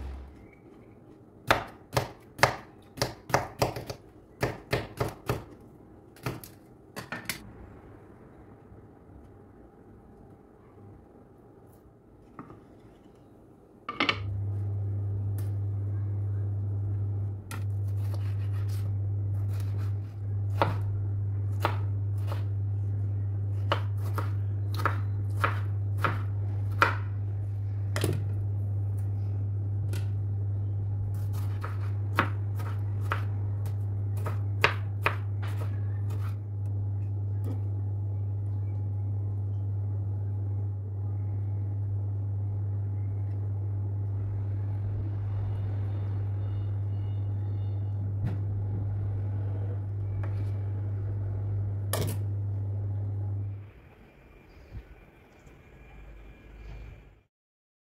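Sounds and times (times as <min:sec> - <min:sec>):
steady low hum: 0:00.0 - 0:57.3.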